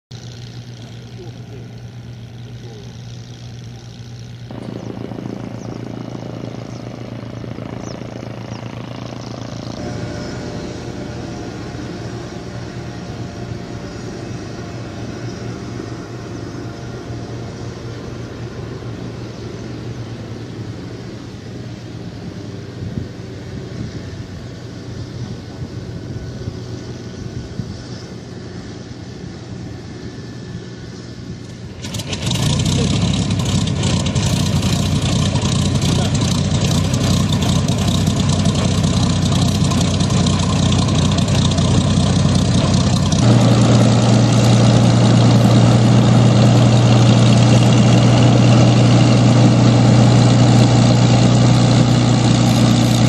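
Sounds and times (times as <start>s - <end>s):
aircraft engine running: 0.1s - 53.0s.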